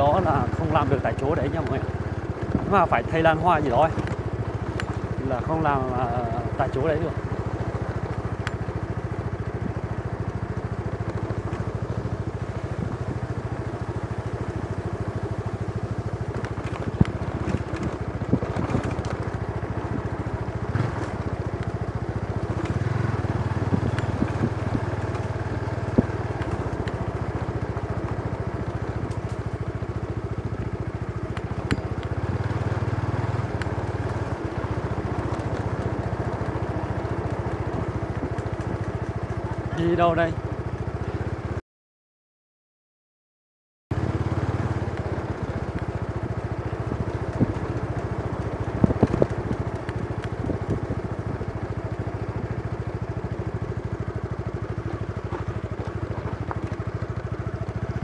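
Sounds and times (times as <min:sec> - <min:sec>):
motorbike engine running: 0:00.0 - 0:41.6, 0:43.9 - 0:58.0
road and wind noise: 0:00.0 - 0:41.6, 0:43.9 - 0:58.0.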